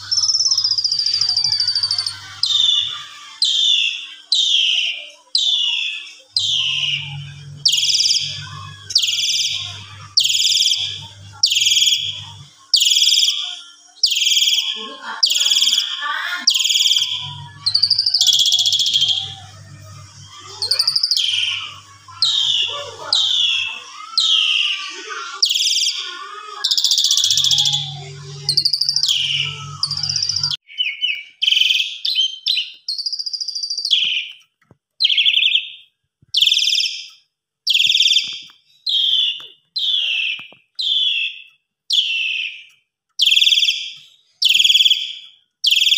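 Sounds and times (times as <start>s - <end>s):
starling singing scratchy whistles: 0.0s - 34.4s, 36.4s - 37.1s, 37.7s - 45.9s.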